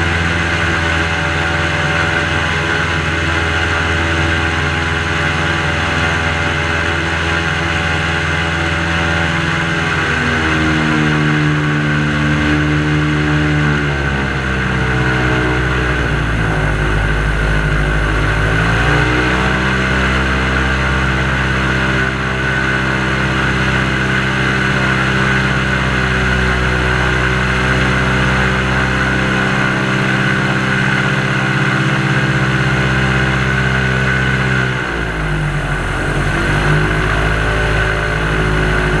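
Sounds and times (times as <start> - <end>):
airboat engine and propeller: 0.0 - 39.0.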